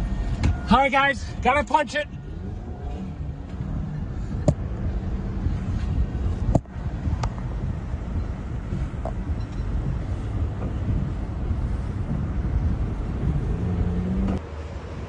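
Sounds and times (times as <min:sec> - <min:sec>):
car engine and road rumble: 0:00.0 - 0:15.0
wind noise: 0:02.1 - 0:15.0.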